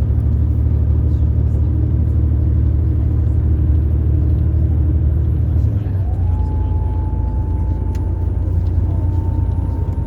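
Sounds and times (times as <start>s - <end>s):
bus engine and road drone: 0.0s - 10.0s.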